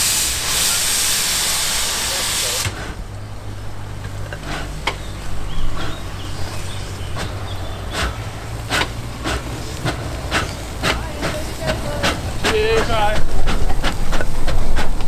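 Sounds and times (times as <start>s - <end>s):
steam locomotive rumbling: 0.0s - 15.0s
wheels clicking and knocking on track: 2.5s - 15.0s.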